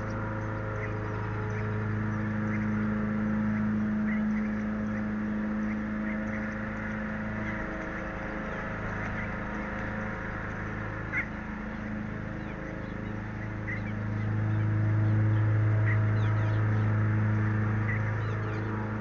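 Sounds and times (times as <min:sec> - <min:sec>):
bird chirps: 0:00.0 - 0:18.9
low mechanical hum: 0:00.0 - 0:19.0.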